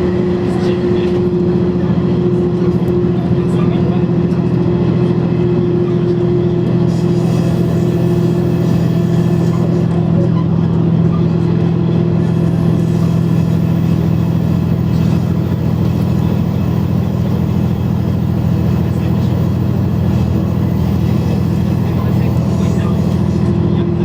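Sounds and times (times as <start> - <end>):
diesel railcar engine droning: 0.0 - 24.0.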